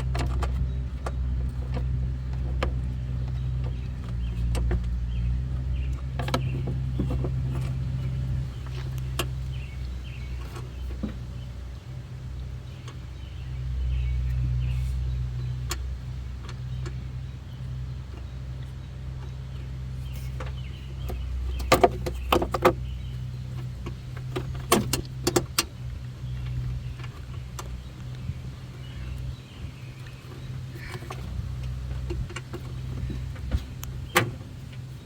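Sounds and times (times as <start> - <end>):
sharp clicks and knocks on engine parts: 0.0 - 35.0
steady low hum: 0.0 - 35.0.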